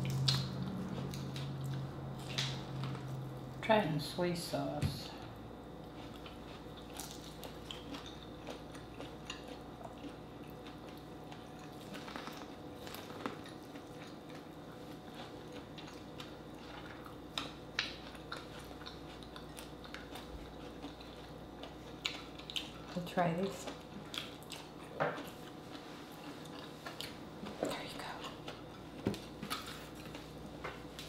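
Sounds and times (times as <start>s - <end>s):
chewing and biting food: 0.0s - 3.5s, 5.7s - 31.0s
faint steady hum: 0.0s - 31.0s.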